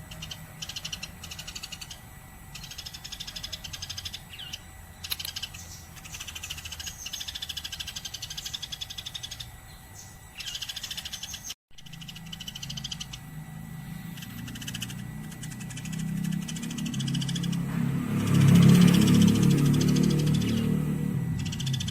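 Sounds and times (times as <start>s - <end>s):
low hum: 0.0s - 21.9s
sparrow chirping: 0.0s - 21.9s.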